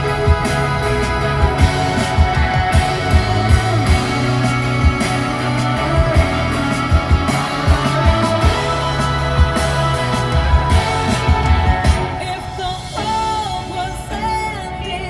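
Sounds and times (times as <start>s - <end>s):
instrumental pop music through car speakers: 0.0s - 15.0s.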